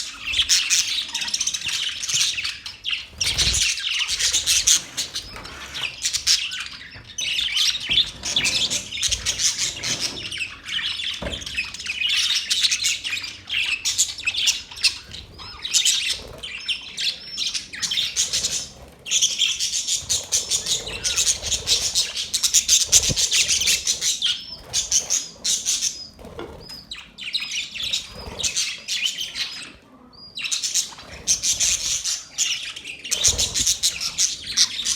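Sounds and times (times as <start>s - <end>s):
budgerigars chattering and warbling: 0.0s - 34.9s.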